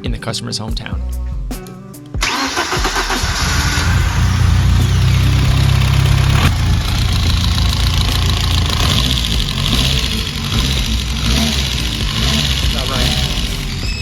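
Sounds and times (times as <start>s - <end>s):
car engine idling: 2.2s - 14.0s.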